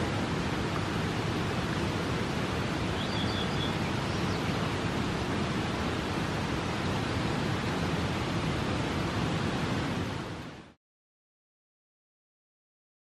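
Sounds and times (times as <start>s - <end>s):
river and waterfall roar: 0.0s - 10.8s.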